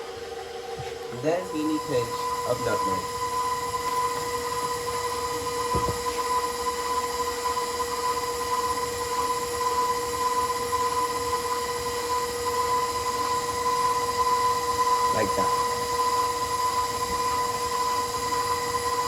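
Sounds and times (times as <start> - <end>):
stand mixer motor whining: 0.0 - 19.0.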